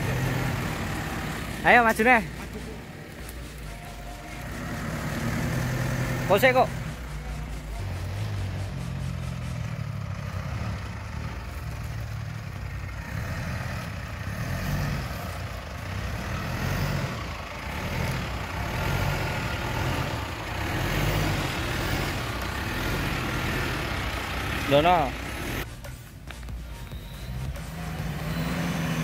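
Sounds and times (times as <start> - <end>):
engine running at low revs: 0.0 - 25.7, 26.7 - 29.0
rough bright engine noise: 0.0 - 25.7.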